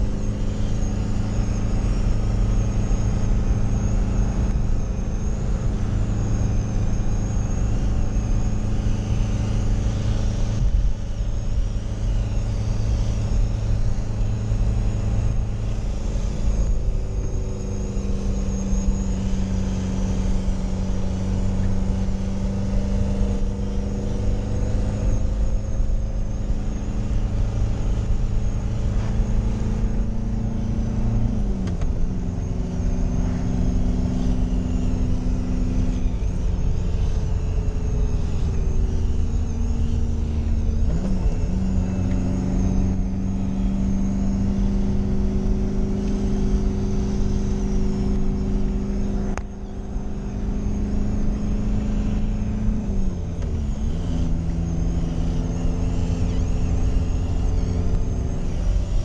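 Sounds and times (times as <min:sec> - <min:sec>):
road noise: 0:00.0 - 0:59.0
van engine running hard: 0:00.0 - 0:59.0.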